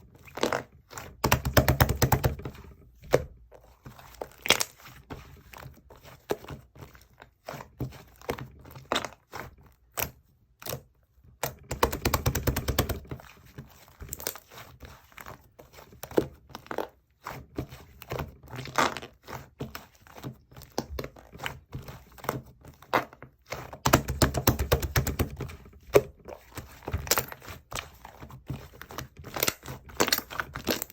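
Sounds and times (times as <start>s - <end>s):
slime kneaded by hand: 0.0s - 30.9s.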